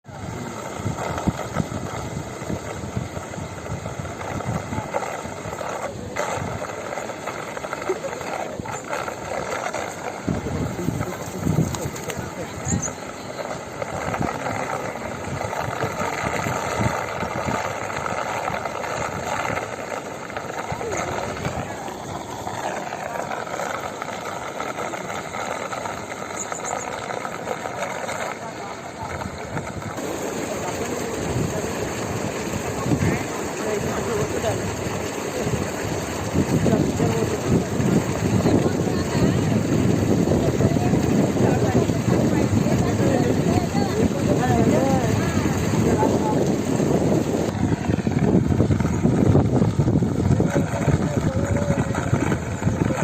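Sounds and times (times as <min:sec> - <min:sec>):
floodwater rushing and churning: 0:00.0 - 0:53.0.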